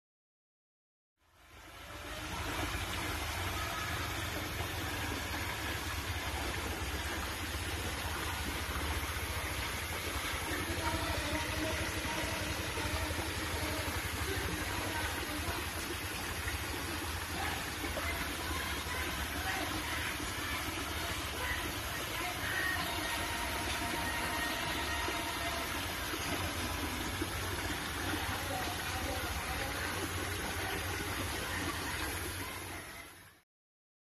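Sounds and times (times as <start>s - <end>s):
pump motor hum: 1.2s - 33.4s
churning water: 1.3s - 33.4s.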